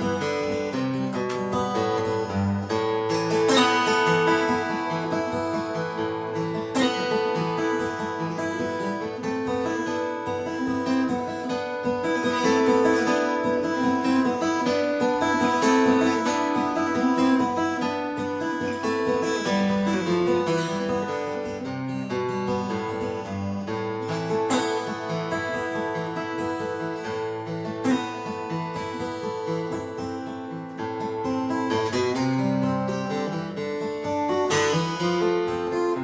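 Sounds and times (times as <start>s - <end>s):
acoustic guitar melody: 0.0s - 36.0s.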